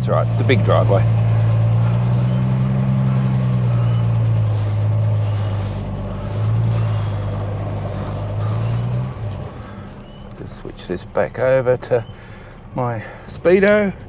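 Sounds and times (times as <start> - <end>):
car engine low hum: 0.0 - 14.0.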